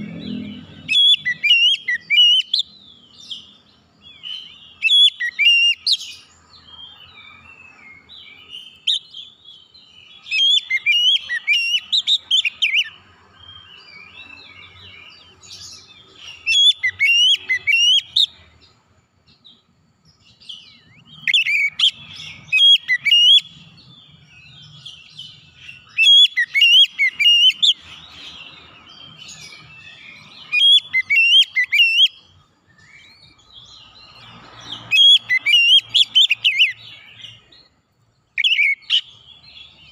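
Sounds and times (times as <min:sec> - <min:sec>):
magpie-robin singing: 0:00.0 - 0:18.6, 0:20.2 - 0:39.9.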